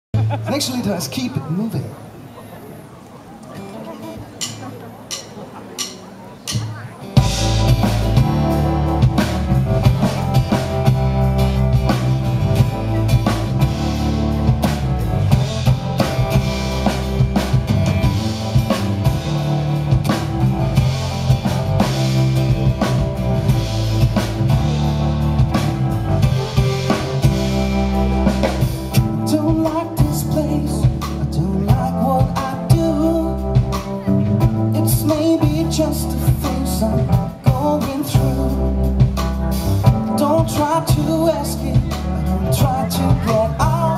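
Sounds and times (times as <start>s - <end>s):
keyboard: 0.1s - 43.9s
acoustic guitar: 3.5s - 43.9s
drum kit beat: 4.2s - 43.9s
electric bass: 6.6s - 43.9s.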